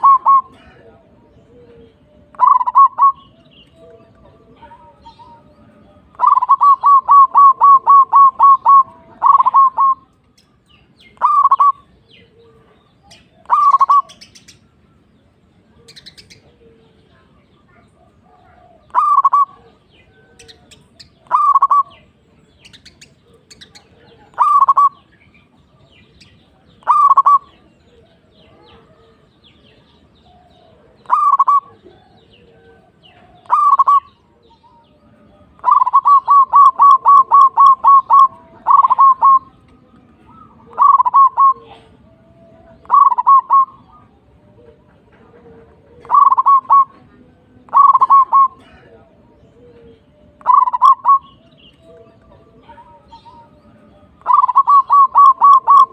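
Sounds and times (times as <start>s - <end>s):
dove cooing: 0.0s - 10.1s, 11.1s - 15.0s, 15.6s - 25.1s, 26.5s - 55.9s
small birds chirping: 0.0s - 55.9s.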